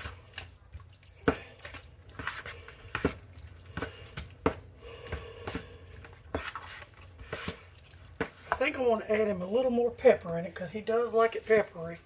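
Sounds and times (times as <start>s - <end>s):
spoon stirring thick stew: 0.0s - 12.0s.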